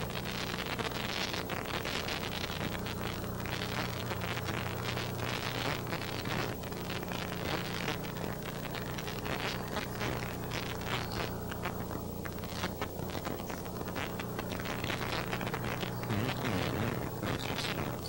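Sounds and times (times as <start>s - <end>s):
irregular crackling: 0.0s - 18.0s
low electrical hum: 0.0s - 18.0s
tape hiss: 0.0s - 18.0s.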